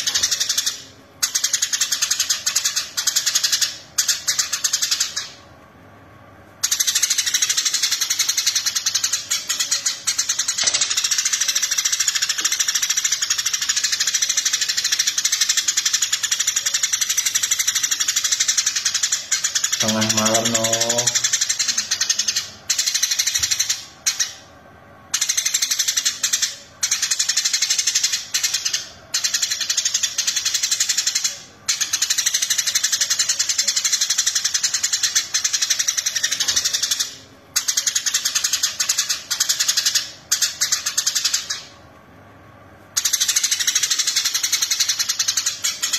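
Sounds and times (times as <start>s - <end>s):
sparrow singing: 0.0s - 5.4s, 6.6s - 24.5s, 25.1s - 41.8s, 42.9s - 45.9s.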